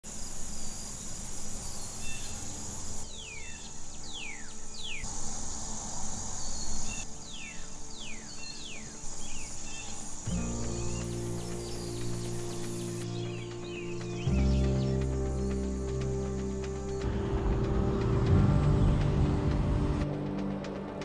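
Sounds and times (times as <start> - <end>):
high insect drone: 0.1 - 21.0.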